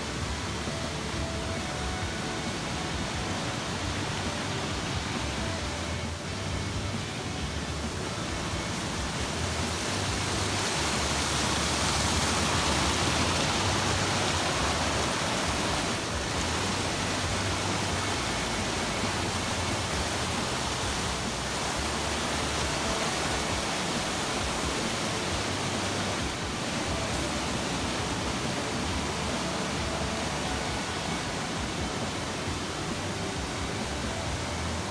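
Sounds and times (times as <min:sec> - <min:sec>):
stream rushing over rocks: 0:00.0 - 0:34.9.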